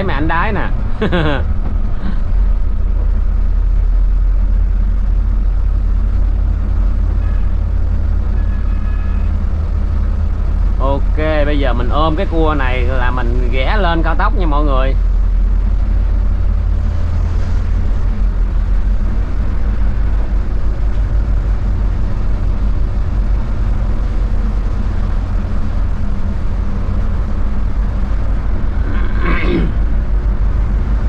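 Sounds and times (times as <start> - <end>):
bus engine and tyres droning: 0.0 - 31.0.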